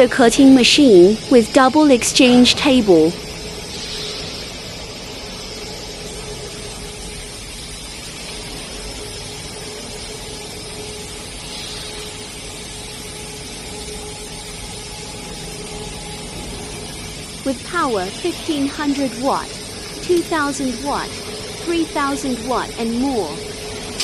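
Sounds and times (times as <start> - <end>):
constant hum tone: 0.0 - 24.0
laser cutting machine hiss: 0.0 - 24.0.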